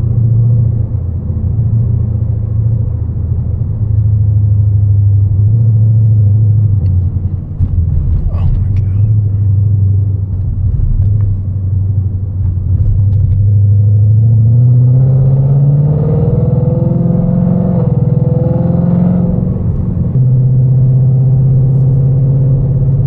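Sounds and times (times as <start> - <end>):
car engine loud exhaust: 0.0 - 23.0.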